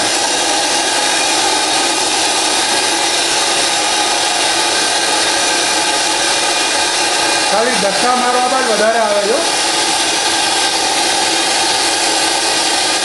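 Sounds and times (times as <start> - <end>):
vacuum cleaner air hissing: 0.0 - 13.0.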